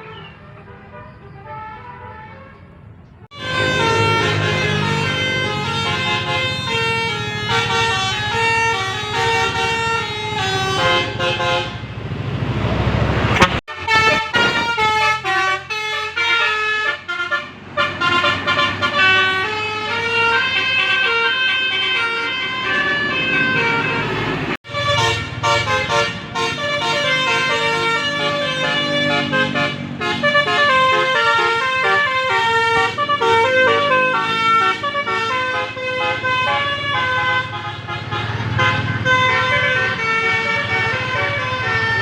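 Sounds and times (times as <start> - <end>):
multi-tone bus horns playing melodies: 0.0 - 12.0, 13.2 - 42.0.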